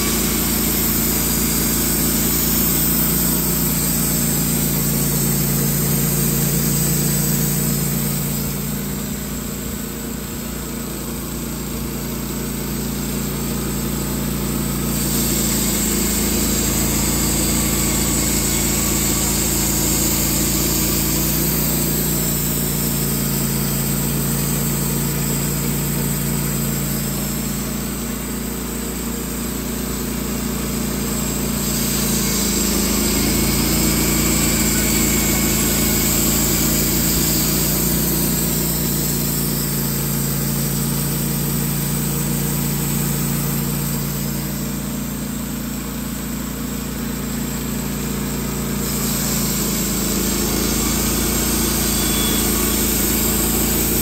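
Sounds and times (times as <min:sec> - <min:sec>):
band saw blade sawing log: 0:00.0 - 0:10.4, 0:11.1 - 0:28.8, 0:29.6 - 0:44.9, 0:48.6 - 0:54.0
band sawmill engine running: 0:00.0 - 0:54.0.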